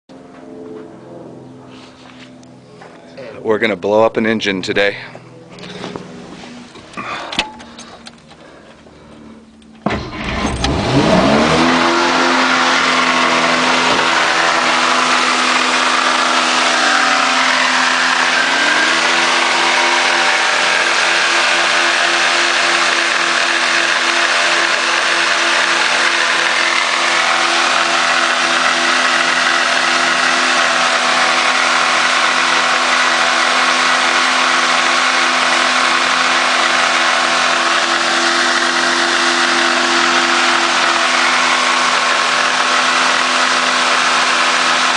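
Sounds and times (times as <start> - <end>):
car engine revving: 5.3 - 44.9.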